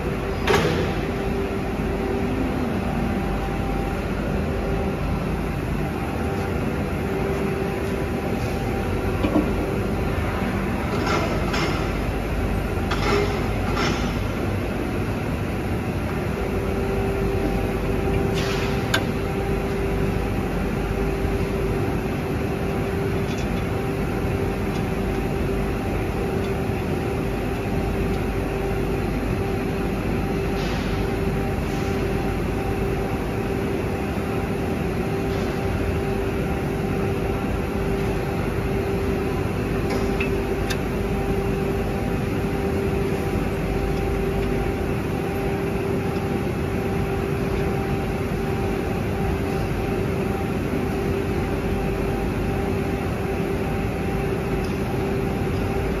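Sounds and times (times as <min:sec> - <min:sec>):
factory machinery drone: 0:00.0 - 0:56.0.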